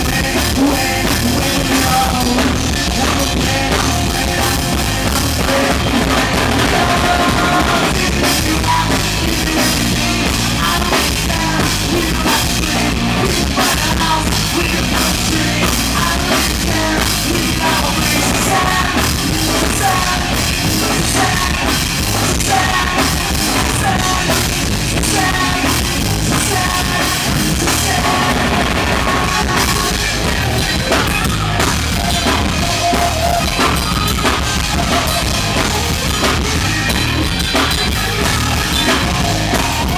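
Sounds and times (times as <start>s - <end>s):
rock music with drums: 0.0s - 39.9s.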